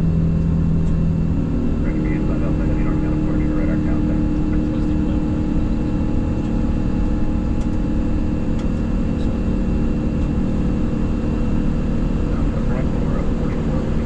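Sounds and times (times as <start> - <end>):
cockpit low rumble: 0.0 - 14.0
constant hum: 0.0 - 14.0.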